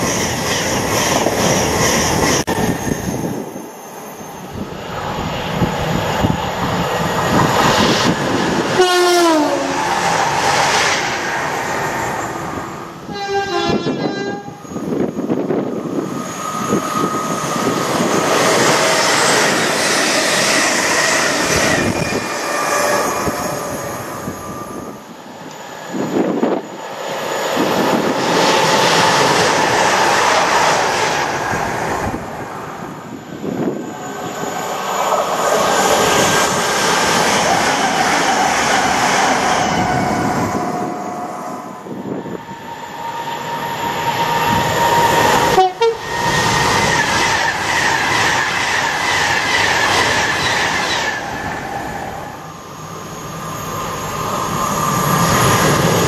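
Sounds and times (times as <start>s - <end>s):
electric trains passing at speed: 0.0s - 56.0s.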